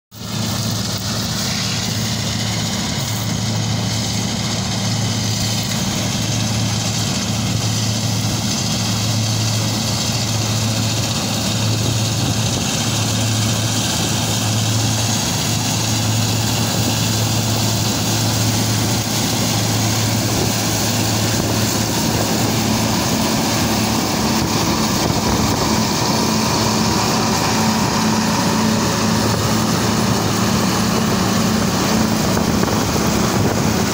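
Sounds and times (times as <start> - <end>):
combine harvester running: 0.1 - 33.9.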